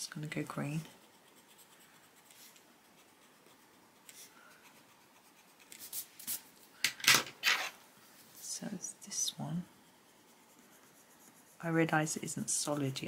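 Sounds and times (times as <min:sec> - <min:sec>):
pencil scratching on paper: 0:00.0 - 0:06.4, 0:08.4 - 0:13.0.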